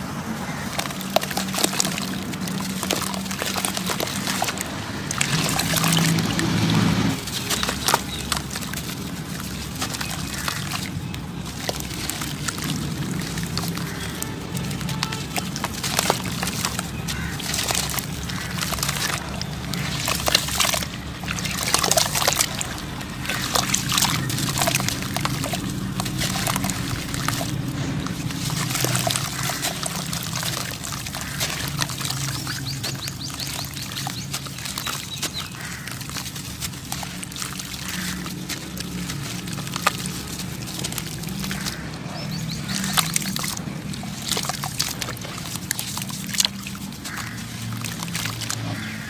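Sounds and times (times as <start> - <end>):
dirt clumps crumbling and pouring: 0.0 - 49.0.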